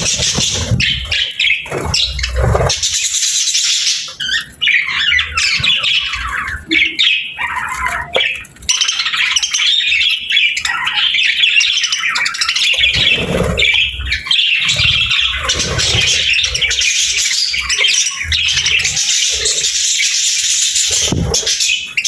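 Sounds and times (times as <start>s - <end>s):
budgerigars chattering and squawking: 0.0s - 22.0s.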